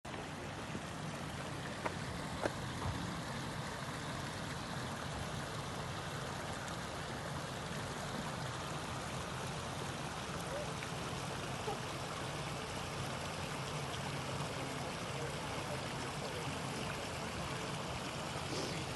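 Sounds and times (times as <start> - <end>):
flowing water: 0.0 - 18.9.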